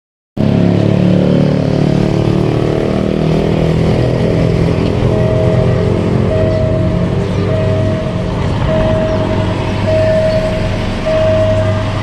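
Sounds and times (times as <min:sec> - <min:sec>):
vehicle engine running: 0:00.4 - 0:12.0.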